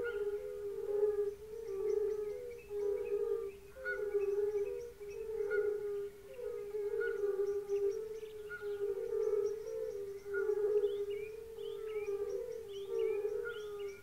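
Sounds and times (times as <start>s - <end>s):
chorus of toads calling: 0.0s - 14.0s.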